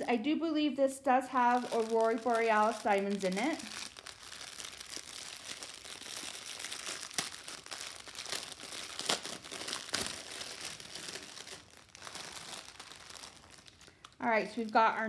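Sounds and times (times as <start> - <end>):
plastic bag crinkling: 1.2 - 15.0
small bags shifting: 1.4 - 15.0.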